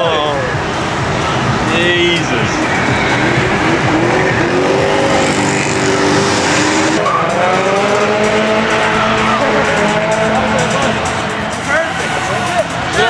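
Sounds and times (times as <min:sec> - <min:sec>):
car engine revving hard: 0:02.4 - 0:13.0
tires sliding and squealing: 0:02.4 - 0:13.0.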